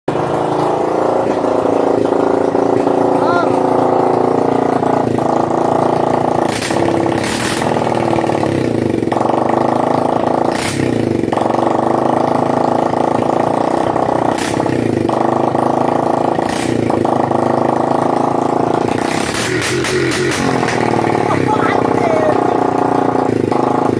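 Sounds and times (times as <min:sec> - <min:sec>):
motorcycle engine revving: 0:00.1 - 0:23.9.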